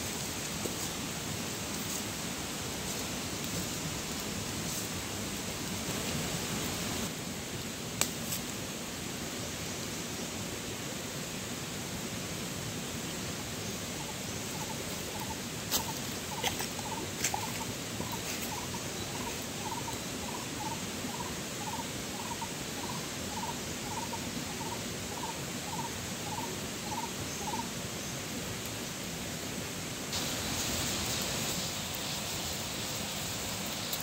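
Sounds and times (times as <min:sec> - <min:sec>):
steady rushing hiss: 0:00.0 - 0:34.0.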